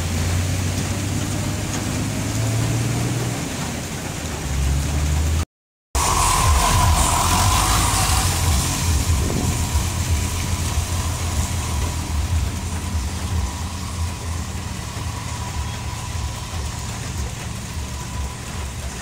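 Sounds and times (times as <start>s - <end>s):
car driving away: 0.0s - 5.4s, 6.0s - 19.0s
truck engine drone: 0.0s - 5.4s, 6.0s - 19.0s.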